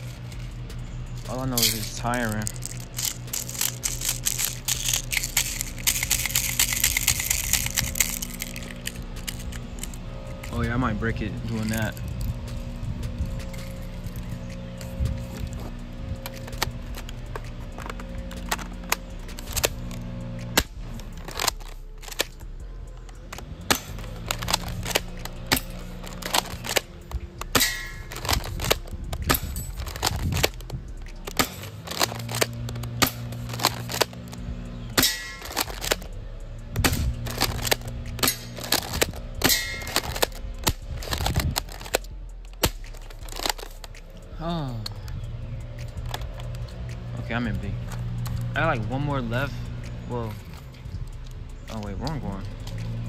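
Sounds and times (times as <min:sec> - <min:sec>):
pellets clanging on metal targets: 0:00.0 - 0:12.7, 0:13.4 - 0:45.0.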